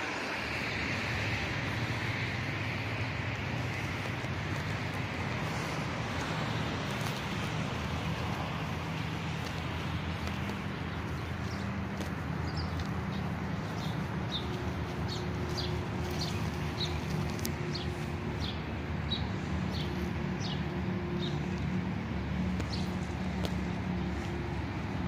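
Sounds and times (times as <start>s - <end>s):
low street hum: 0.0s - 25.0s.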